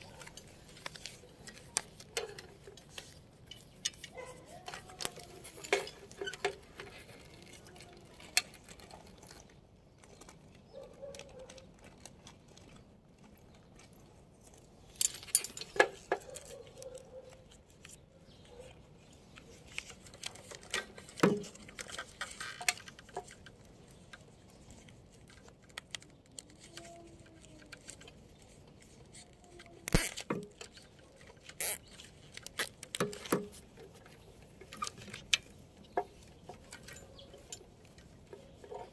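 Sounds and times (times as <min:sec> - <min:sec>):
cable hardware clicking and rattling: 0:00.0 - 0:38.9.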